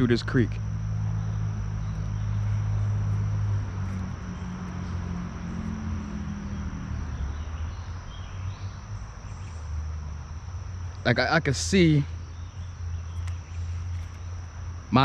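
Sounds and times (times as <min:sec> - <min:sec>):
insect chirr: 0:00.0 - 0:15.0.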